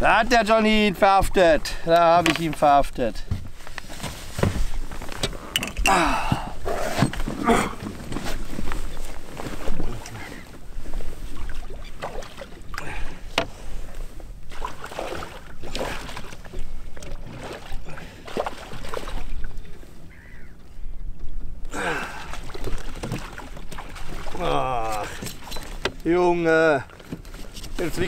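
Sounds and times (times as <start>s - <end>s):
knocks and scrapes in a boat: 1.2s - 20.0s, 22.3s - 28.0s.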